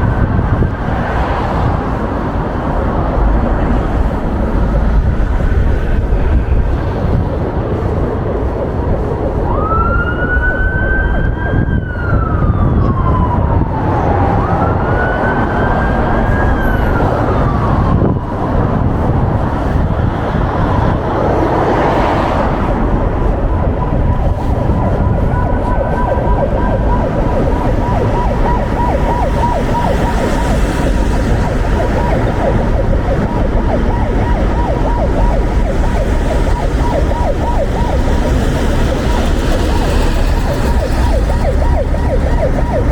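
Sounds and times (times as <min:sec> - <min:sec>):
emergency vehicle siren: 0:00.0 - 0:42.9
traffic rumble: 0:00.0 - 0:42.9
wind: 0:00.0 - 0:42.9.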